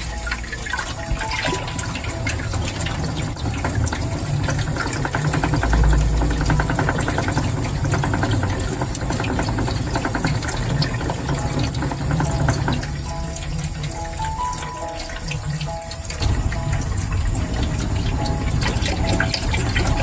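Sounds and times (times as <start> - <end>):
water running: 0.0 - 20.0.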